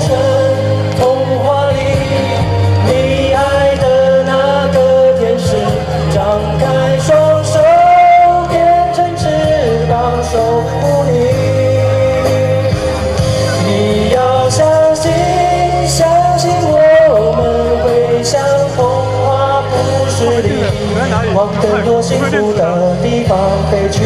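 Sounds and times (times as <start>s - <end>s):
person singing: 0.0s - 24.0s
pop ballad backing track: 0.0s - 24.0s.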